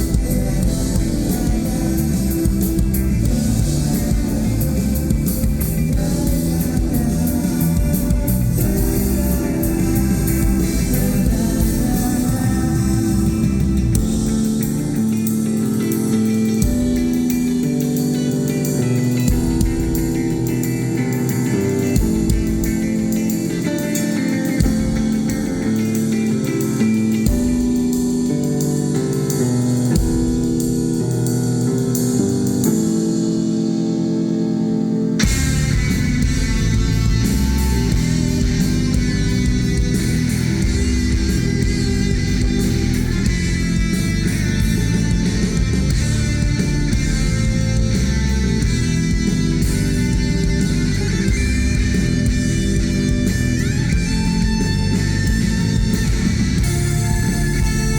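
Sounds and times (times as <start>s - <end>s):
live rock band playing: 0.0s - 57.9s
sustained keyboard chords: 0.0s - 57.9s.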